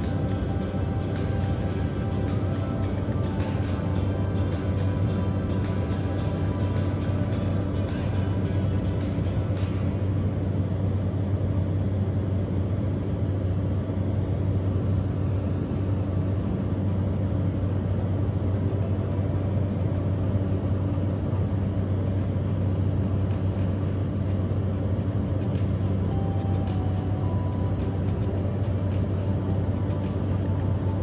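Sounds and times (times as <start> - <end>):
aircraft engine drone from inside: 0.0 - 31.0.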